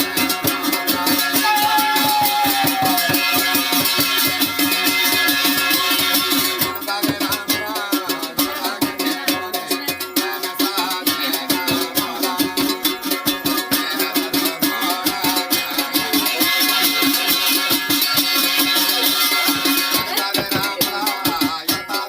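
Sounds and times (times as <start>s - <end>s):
plucked-string melody: 0.0s - 2.0s, 2.7s - 22.0s
folk dance music: 0.0s - 22.0s
quick percussion beat: 0.0s - 22.0s.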